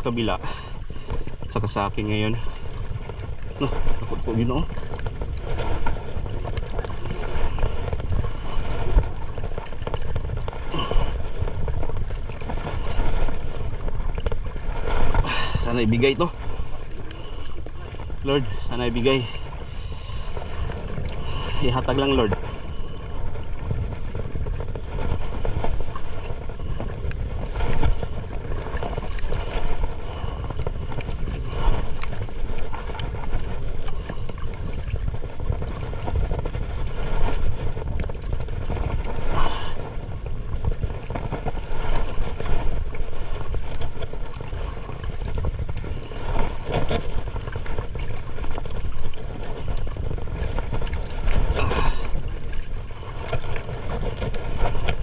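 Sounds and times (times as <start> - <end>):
water splashes: 0.0 - 55.0
wind and water rumble: 0.0 - 55.0.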